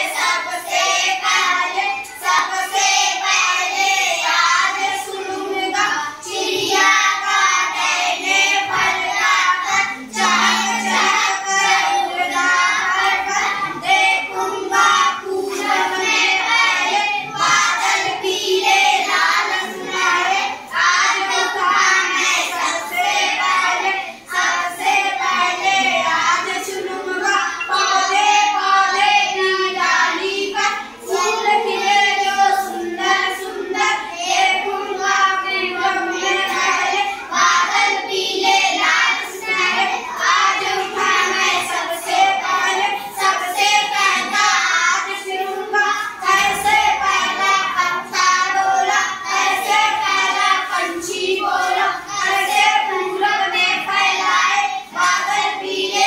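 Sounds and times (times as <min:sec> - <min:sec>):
children singing in unison: 0:00.0 - 0:56.0.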